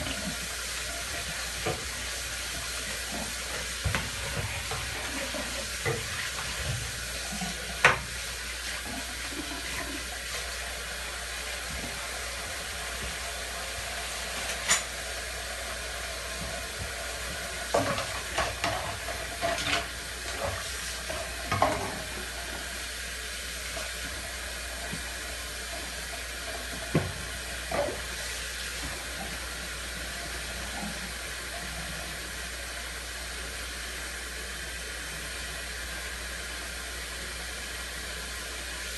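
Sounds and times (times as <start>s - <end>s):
water running into sink: 0.0s - 38.9s.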